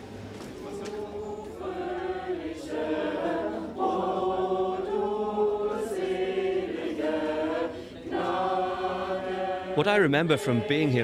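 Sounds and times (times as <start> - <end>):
choir singing held notes: 0.5 - 11.0.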